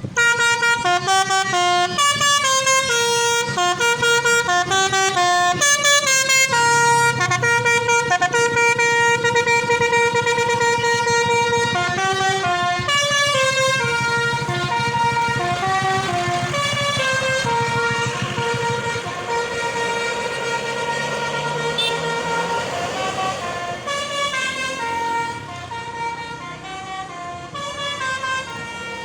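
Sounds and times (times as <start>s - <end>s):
bus engine running: 0.0s - 29.0s
musical air horn melody: 0.1s - 29.0s.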